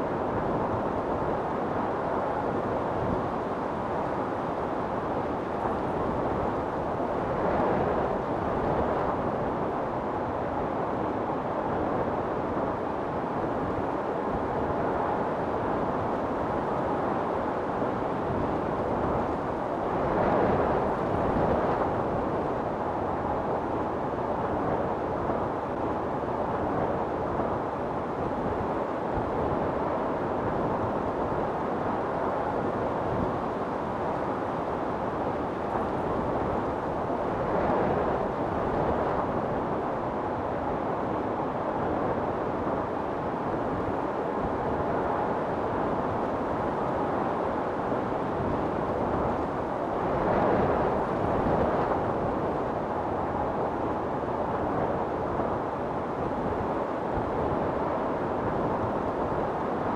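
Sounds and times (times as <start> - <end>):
wind storm blowing: 0.0 - 59.9.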